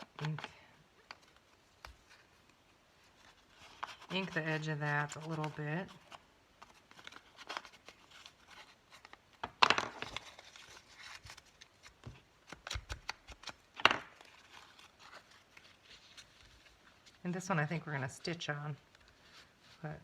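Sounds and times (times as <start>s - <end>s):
paper rustling: 0.0s - 18.1s.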